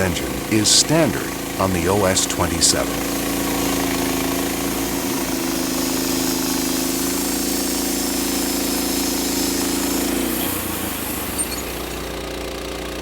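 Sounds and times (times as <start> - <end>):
band sawmill engine droning: 0.0 - 13.0.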